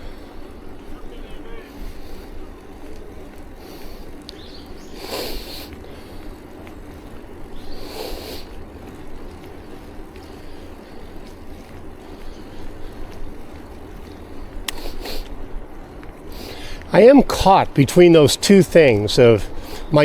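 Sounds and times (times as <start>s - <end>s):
road rumble: 0.0s - 20.0s
wind buffeting microphone: 0.0s - 20.0s.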